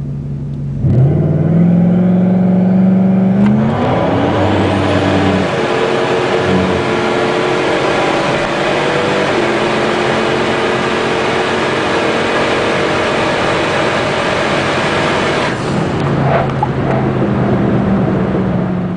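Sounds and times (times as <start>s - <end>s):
car engine under full throttle: 0.0s - 18.9s.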